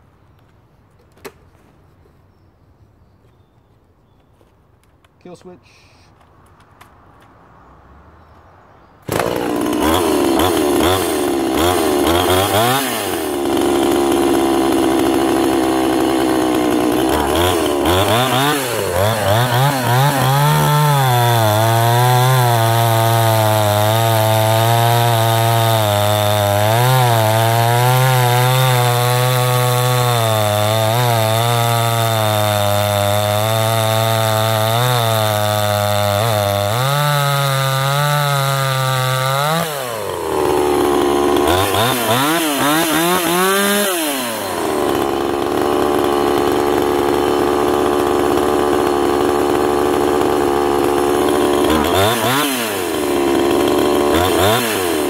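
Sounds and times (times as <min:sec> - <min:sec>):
chainsaw revving and cutting log: 0:09.0 - 0:55.0.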